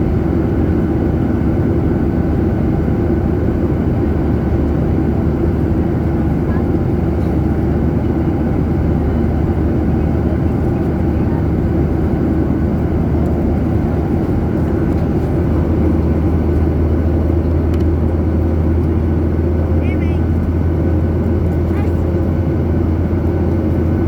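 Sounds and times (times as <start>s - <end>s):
jet engine drone in cabin: 0.0s - 24.0s.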